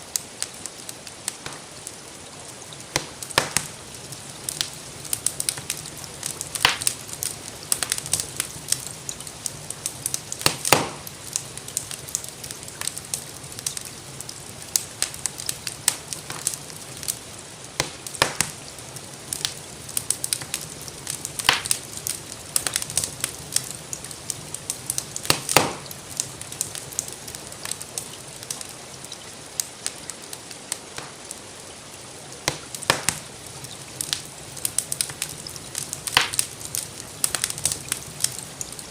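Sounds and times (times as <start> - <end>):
gentle rain: 0.0 - 38.9
wood fire crackling: 0.0 - 38.9.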